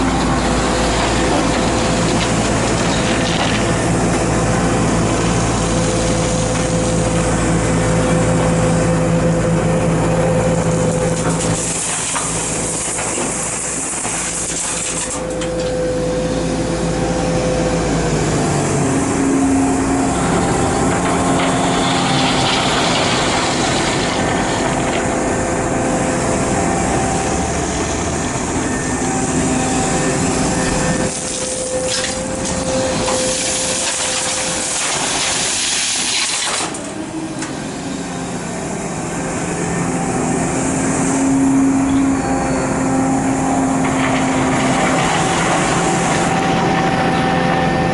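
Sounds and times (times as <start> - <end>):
excavator diesel engine working: 0.0 - 47.9.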